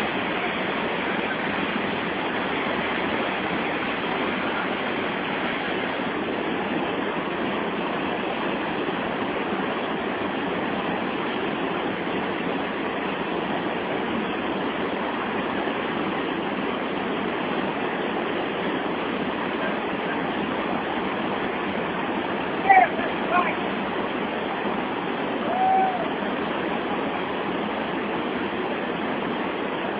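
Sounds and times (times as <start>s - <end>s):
rushing waterfall rapids: 0.0s - 29.9s.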